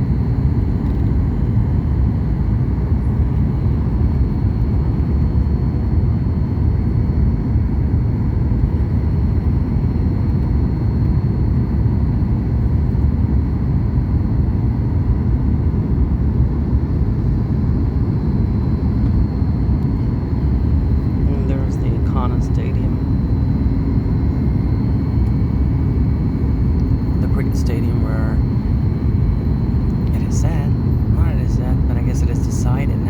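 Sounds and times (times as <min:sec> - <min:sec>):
airplane cabin low rumble: 0:00.0 - 0:33.0.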